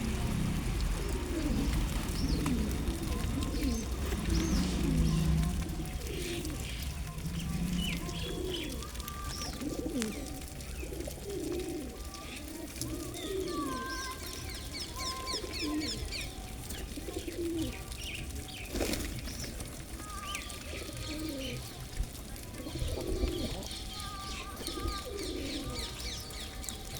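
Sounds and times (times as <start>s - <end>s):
pigeons cooing: 0.0s - 26.9s
small birds chirping: 0.0s - 26.9s.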